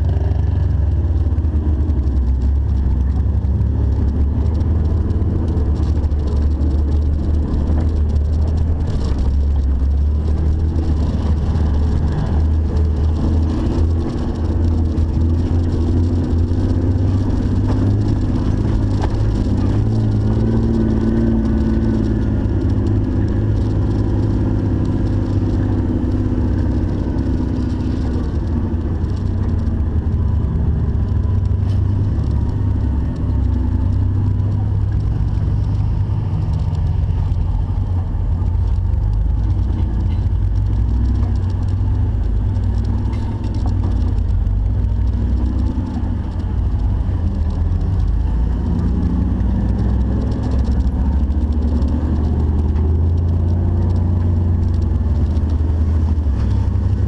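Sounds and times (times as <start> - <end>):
engine deep rumble: 0.0 - 57.0.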